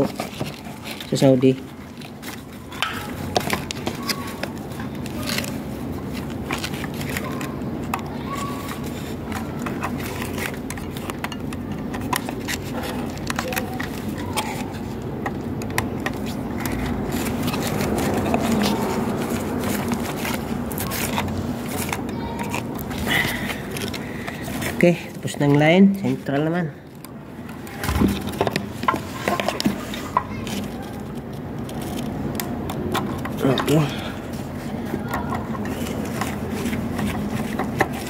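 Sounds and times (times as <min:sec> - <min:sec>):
steady background noise: 0:00.0 - 0:38.0
screwdriver clicking and scraping: 0:01.8 - 0:34.0, 0:35.0 - 0:38.0.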